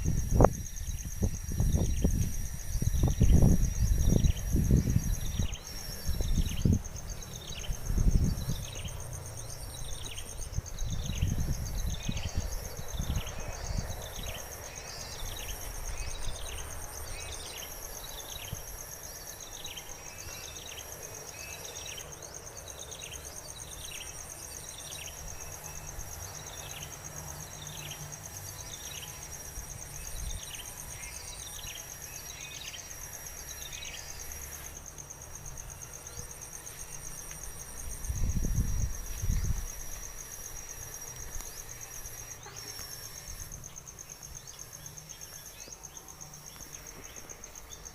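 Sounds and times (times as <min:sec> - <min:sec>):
high insect buzz: 0:00.0 - 0:47.9.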